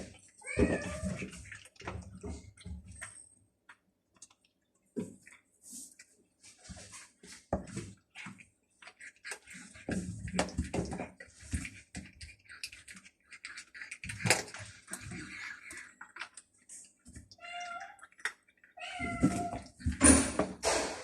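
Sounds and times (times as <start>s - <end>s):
cats chewing: 0.0s - 20.2s.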